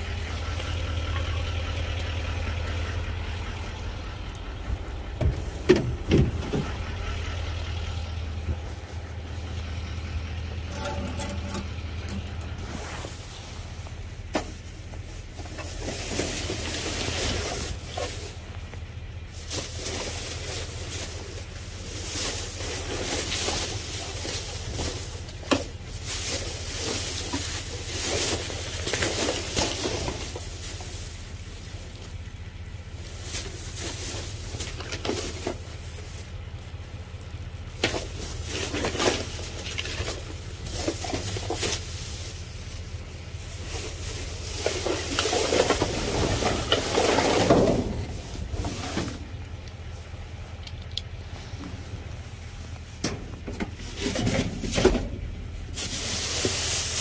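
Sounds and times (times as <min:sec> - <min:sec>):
plastic bags rustling: 0:00.0 - 0:57.0
steady low hum: 0:00.0 - 0:57.0.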